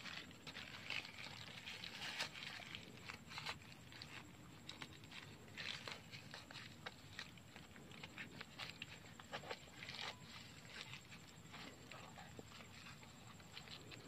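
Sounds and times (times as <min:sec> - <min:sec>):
faint scratching and clicking: 0:00.0 - 0:14.0.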